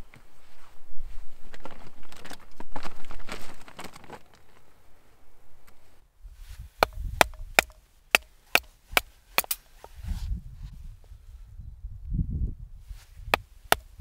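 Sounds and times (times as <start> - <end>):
soft rustle: 0.0 - 5.0, 5.7 - 11.5, 12.8 - 14.0.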